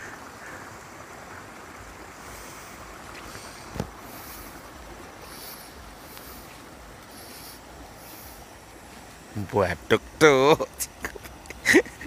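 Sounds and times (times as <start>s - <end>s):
rushing wind and water: 0.0s - 12.0s.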